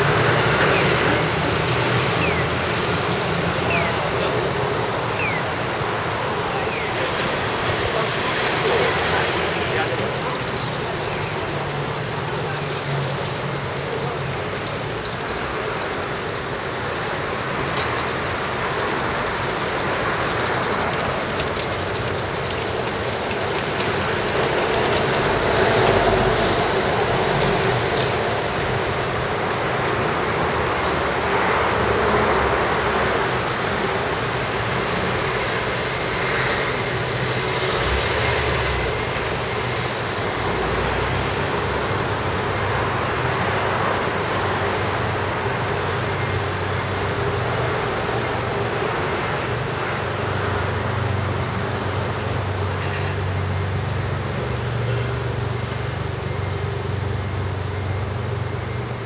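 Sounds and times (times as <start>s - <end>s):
city street noise: 0.0s - 59.0s.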